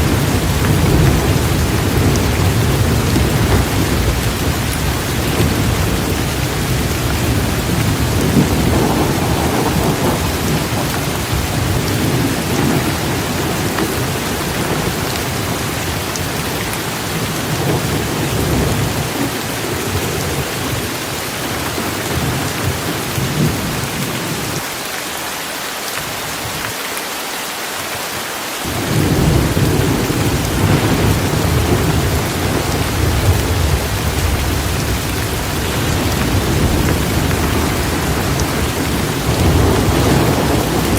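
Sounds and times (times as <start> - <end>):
low rolling thunder: 0.0 - 24.6, 28.7 - 40.9
heavy rain pouring: 0.0 - 40.9.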